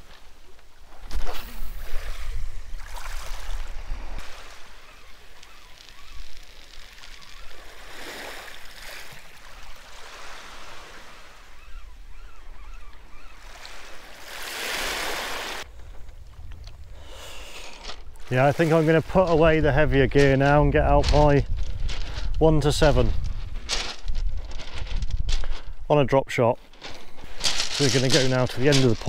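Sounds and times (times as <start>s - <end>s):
gentle waves washing over shingle: 0.0s - 11.7s, 13.4s - 15.7s, 17.3s - 25.9s, 26.6s - 29.0s.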